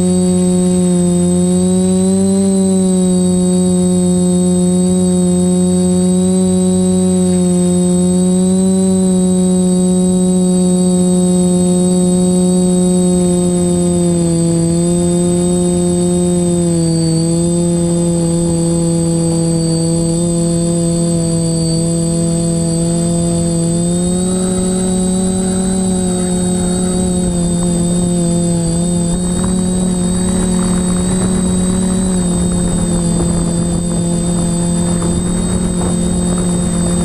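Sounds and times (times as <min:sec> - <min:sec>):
drone propellers humming: 0:00.0 - 0:37.0
thin high whine: 0:00.0 - 0:37.0.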